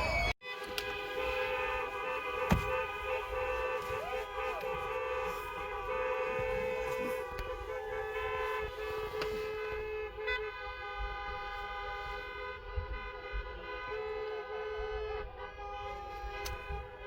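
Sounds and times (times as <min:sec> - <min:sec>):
car horns blasting: 0:00.0 - 0:17.0.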